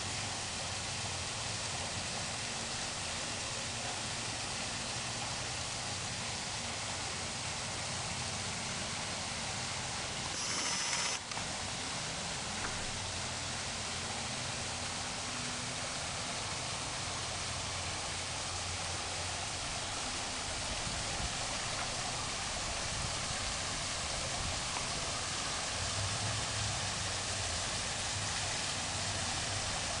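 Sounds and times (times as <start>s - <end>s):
waterfall splashing into pool: 0.0s - 30.0s.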